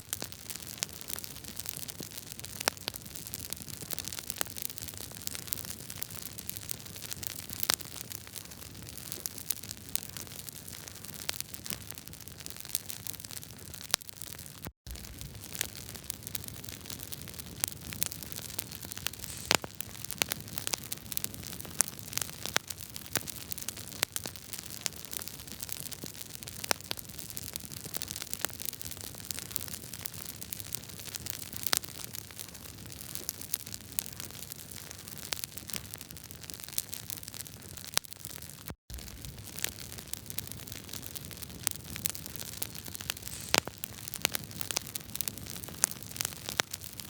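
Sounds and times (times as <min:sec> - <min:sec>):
wood fire crackling: 0:00.1 - 0:47.0.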